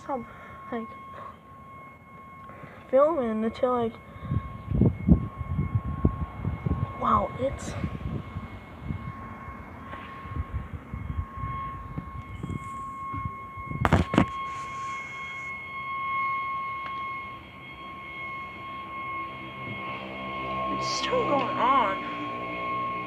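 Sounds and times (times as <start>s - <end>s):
loud steady ringing tone: 0.0s - 23.0s.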